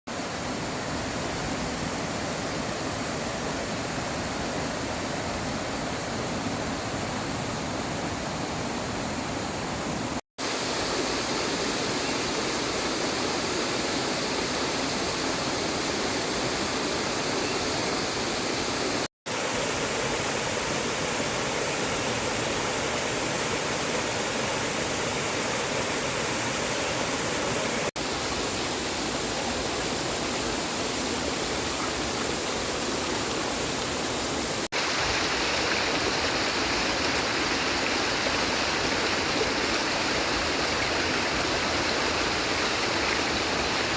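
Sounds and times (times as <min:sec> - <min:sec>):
rushing water: 0:00.1 - 0:43.9.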